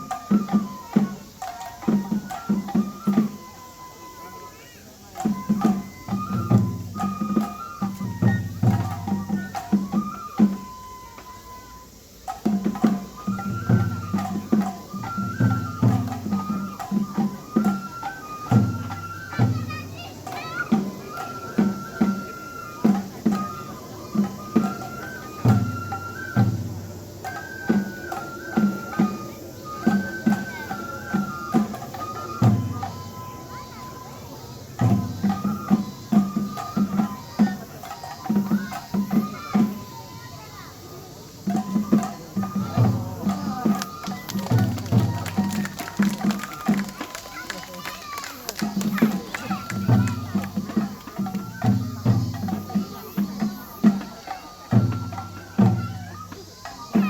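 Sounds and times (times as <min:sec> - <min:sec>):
drum strokes: 0:00.0 - 0:57.0
flute playing high notes: 0:00.0 - 0:57.0.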